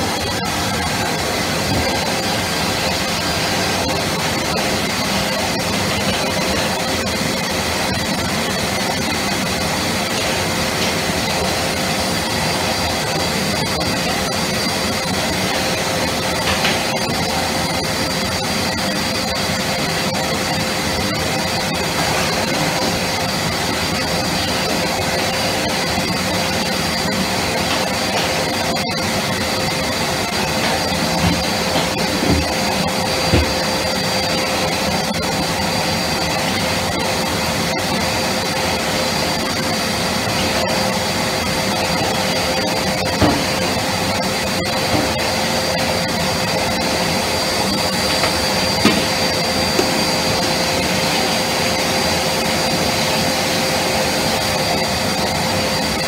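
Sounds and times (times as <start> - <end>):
vacuum cleaner whining: 0.0 - 56.0.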